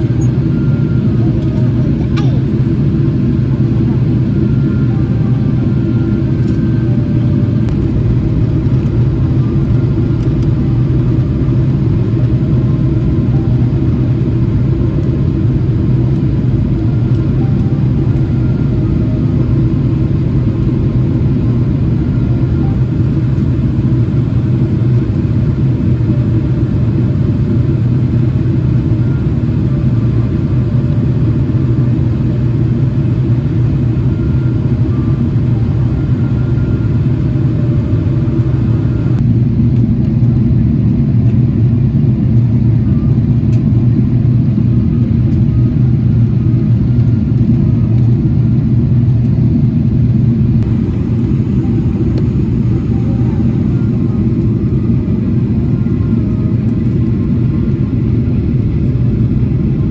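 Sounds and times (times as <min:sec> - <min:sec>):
aircraft engines and airflow rumble: 0:00.0 - 0:59.9.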